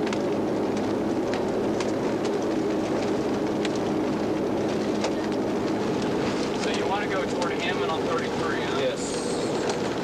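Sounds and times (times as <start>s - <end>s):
vehicle engine and road hum: 0.0s - 10.0s.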